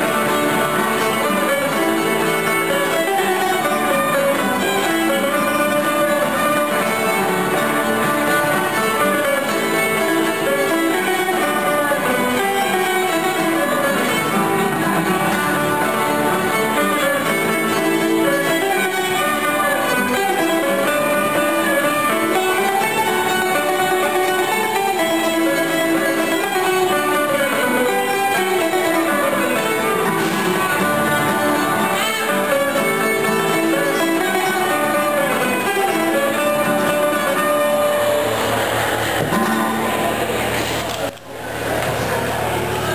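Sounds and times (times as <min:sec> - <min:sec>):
fiddles playing melody: 0:00.0 - 0:41.1
strummed acoustic guitar: 0:00.0 - 0:42.9.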